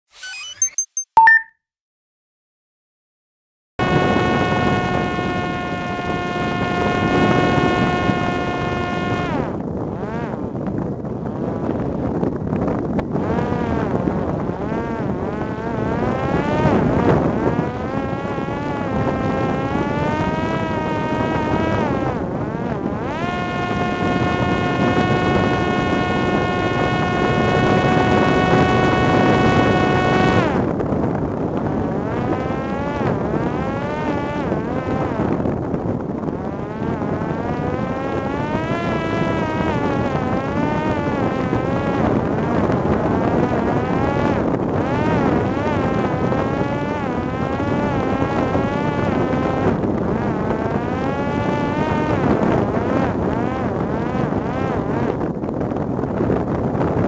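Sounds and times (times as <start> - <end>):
drone motor and propeller buzzing: 0.1 - 1.0, 3.8 - 57.0
wind over microphone: 3.8 - 57.0.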